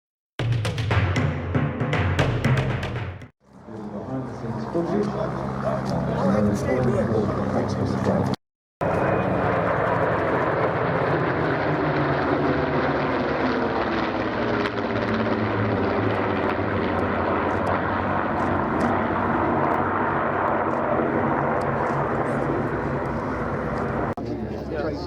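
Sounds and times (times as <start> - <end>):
propeller plane flying past: 3.4 - 25.0.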